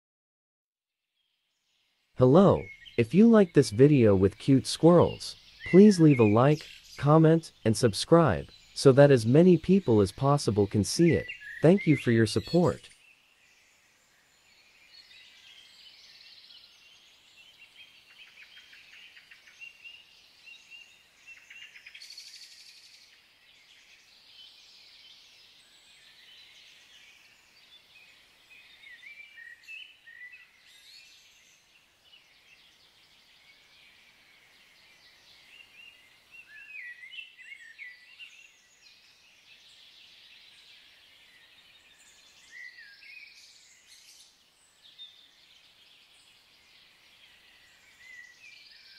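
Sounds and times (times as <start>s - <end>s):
birds chirping and trilling: 2.5s - 48.9s.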